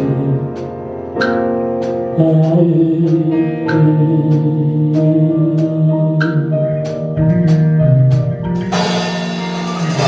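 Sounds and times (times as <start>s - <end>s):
keyboard chords: 0.0s - 10.0s.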